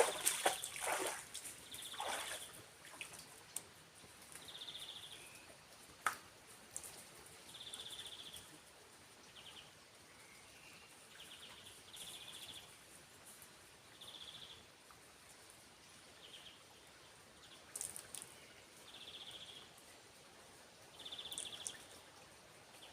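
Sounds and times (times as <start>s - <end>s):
background hiss: 0.0s - 22.9s.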